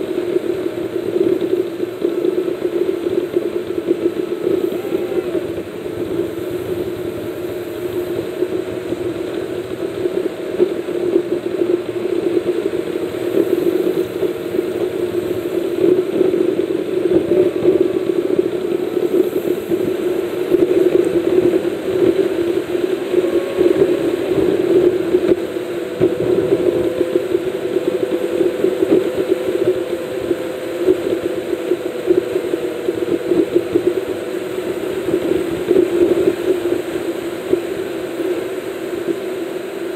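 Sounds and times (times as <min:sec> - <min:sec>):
car engine drone: 0:00.0 - 0:39.9
road noise inside car: 0:00.0 - 0:39.9.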